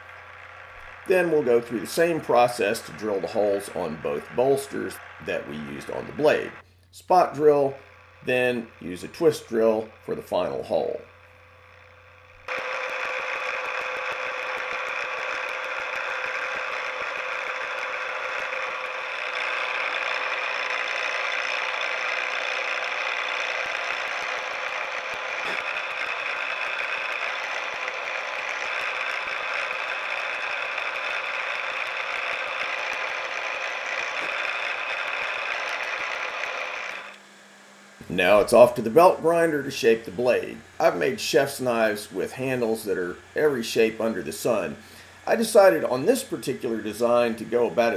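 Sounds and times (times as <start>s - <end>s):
mill spindle drilling into brass: 0.0s - 47.9s.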